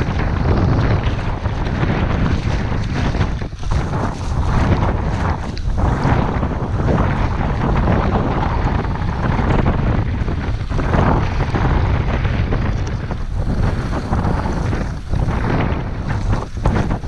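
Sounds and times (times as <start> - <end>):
skis sliding on snow: 0.0 - 17.0
wind rushing over microphone: 0.0 - 17.0.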